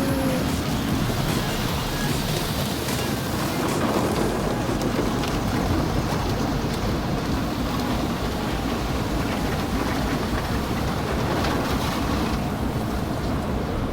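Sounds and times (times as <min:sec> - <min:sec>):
car wash machinery rumble: 0:00.0 - 0:13.9
water spray rushing on car: 0:00.0 - 0:13.9.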